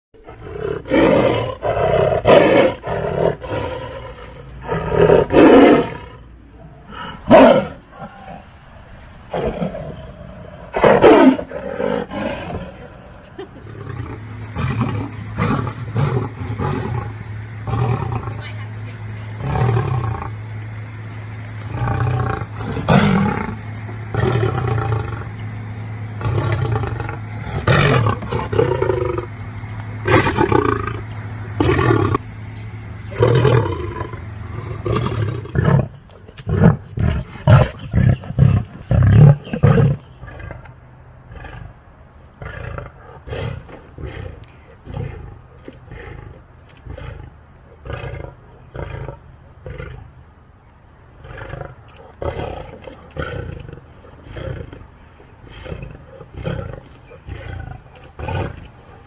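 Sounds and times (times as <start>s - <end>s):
lion grunting: 0.2s - 18.4s, 21.6s - 25.4s, 26.2s - 29.3s, 33.1s - 41.8s, 42.4s - 50.2s, 51.2s - 59.0s
lion roaring: 0.2s - 18.4s, 19.4s - 20.4s, 21.6s - 25.4s, 26.1s - 29.4s, 30.0s - 32.2s, 33.0s - 41.8s, 42.4s - 50.2s, 51.2s - 59.0s.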